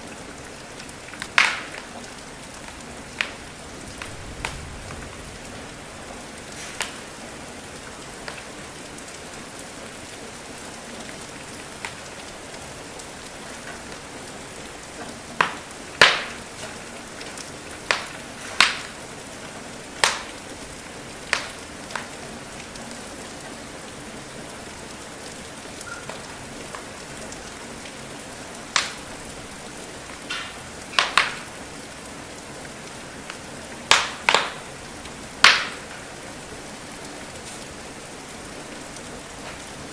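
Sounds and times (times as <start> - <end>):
rain hiss: 0.0 - 39.9
wood fire crackling and popping: 0.0 - 39.9.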